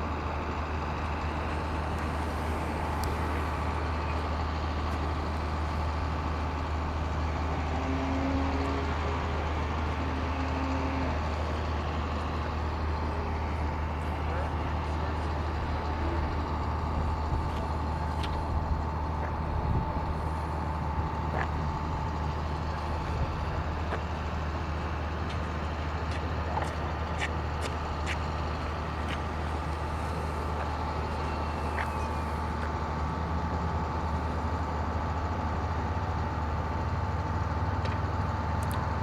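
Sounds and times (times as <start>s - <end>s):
steady engine drone: 0.0s - 39.0s.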